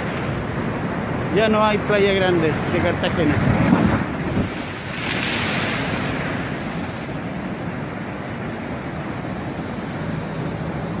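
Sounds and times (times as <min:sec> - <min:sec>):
waves crashing against a seawall: 0:00.0 - 0:11.0
wind buffeting microphone: 0:00.0 - 0:11.0.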